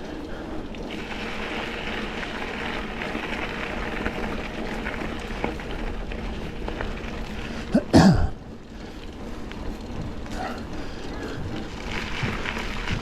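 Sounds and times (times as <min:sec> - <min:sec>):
bike rattling: 0:00.0 - 0:13.0
bike tyres on dirt: 0:00.0 - 0:13.0.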